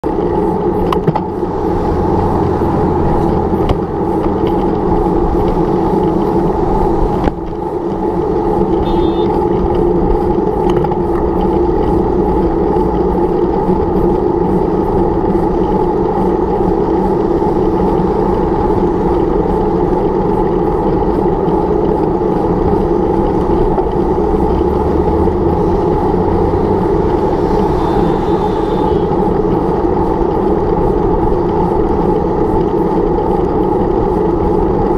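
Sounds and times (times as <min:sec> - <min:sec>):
road traffic noise: 0:00.0 - 0:34.9.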